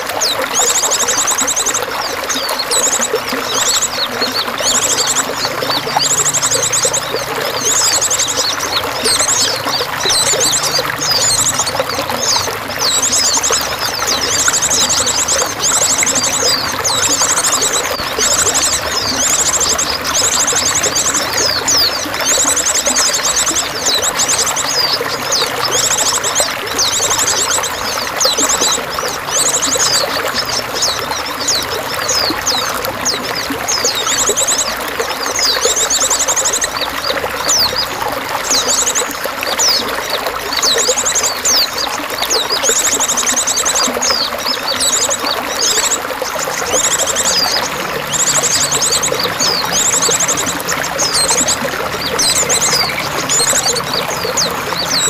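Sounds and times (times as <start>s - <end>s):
songbirds trilling and chirping: 0.0s - 55.0s
water pouring and trickling: 0.0s - 55.0s.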